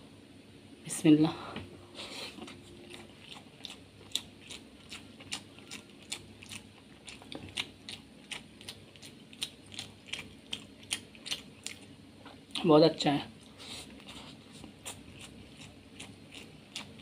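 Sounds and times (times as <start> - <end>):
wet chewing smacks: 2.3 - 12.6, 13.4 - 17.0.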